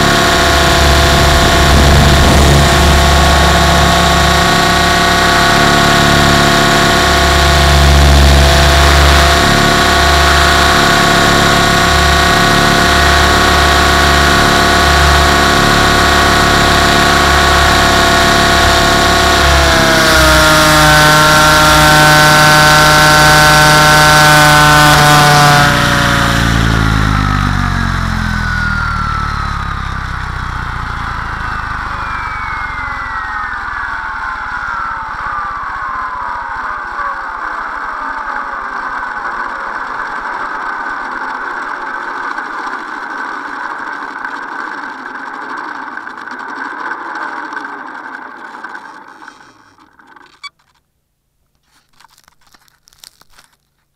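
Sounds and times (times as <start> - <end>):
helicopter motor whine: 0.0 - 50.8
rotor whirr: 0.0 - 50.8.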